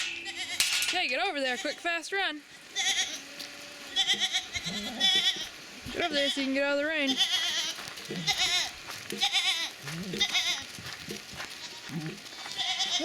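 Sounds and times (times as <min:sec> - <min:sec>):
goats bleating: 0:00.0 - 0:13.0.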